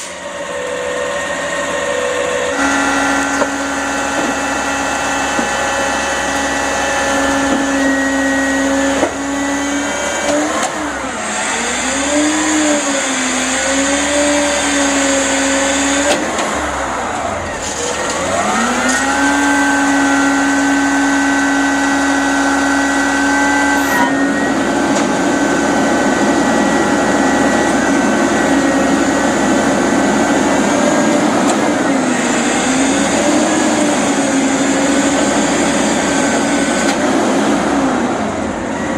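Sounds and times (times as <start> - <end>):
garbage truck engine and hydraulics: 0.0 - 38.9
machine whine: 0.0 - 38.9.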